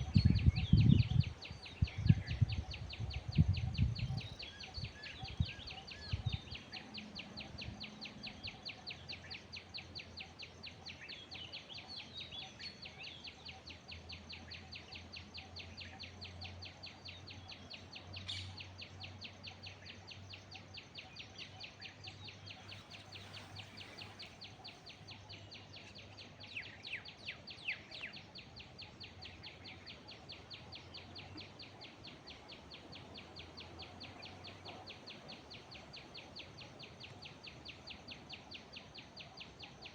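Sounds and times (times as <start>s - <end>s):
bird calls: 0.0s - 39.9s.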